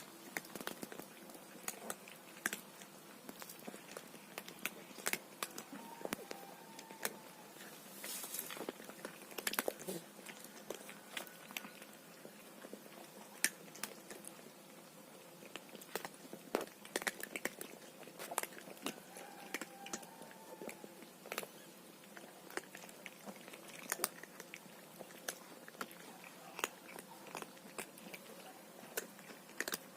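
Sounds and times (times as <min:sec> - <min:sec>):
cat crunching dry food: 0:00.0 - 0:29.9.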